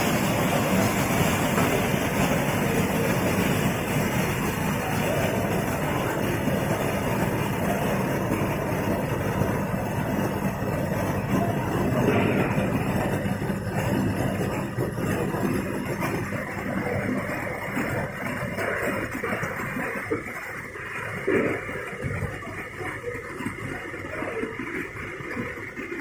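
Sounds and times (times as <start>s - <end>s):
sorting machine running: 0.0s - 26.0s.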